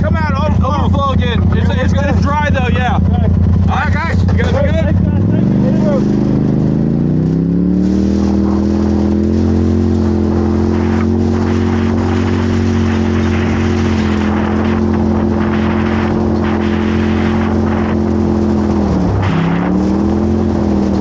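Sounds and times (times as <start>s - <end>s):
constant rushing noise: 0.0s - 21.0s
race vehicle engine revving: 0.0s - 21.0s.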